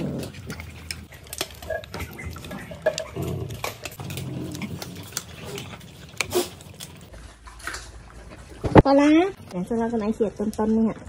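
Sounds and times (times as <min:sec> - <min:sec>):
dogs chewing treats: 0:00.0 - 0:11.0.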